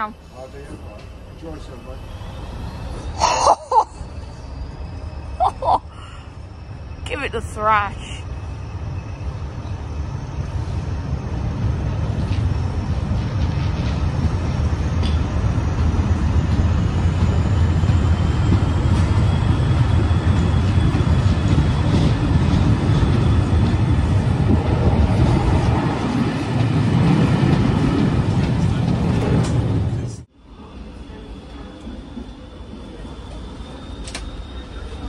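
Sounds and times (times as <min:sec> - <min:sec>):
diesel train engine throbbing: 0:00.0 - 0:35.0.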